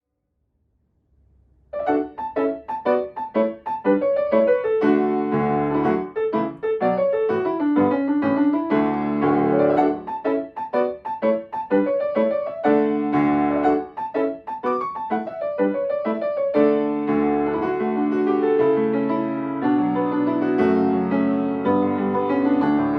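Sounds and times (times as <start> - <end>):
solo piano melody: 1.7 - 22.9.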